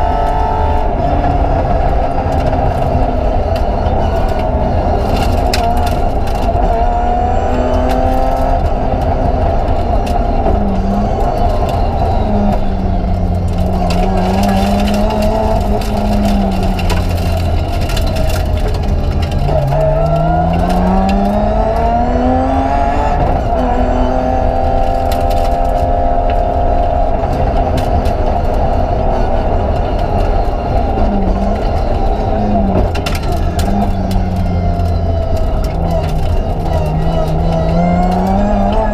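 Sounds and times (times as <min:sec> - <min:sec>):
car engine revving: 0:00.0 - 0:38.9
heavy road noise: 0:00.0 - 0:38.9.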